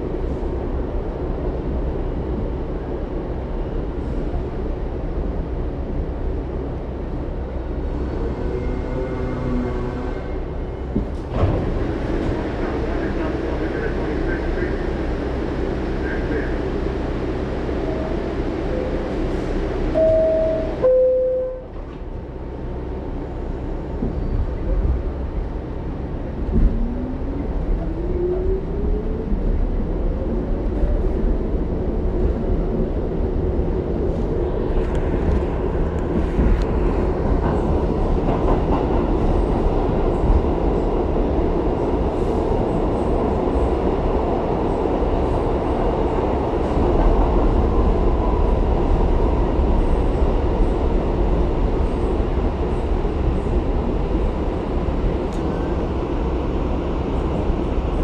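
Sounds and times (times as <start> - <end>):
train wheels rumbling on track: 0.0 - 58.0
subway train motor whine: 6.8 - 58.0.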